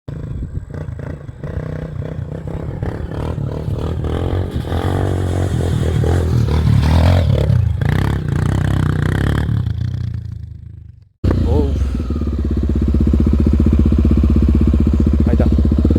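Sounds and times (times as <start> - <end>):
motorcycle engine running: 0.1 - 15.9.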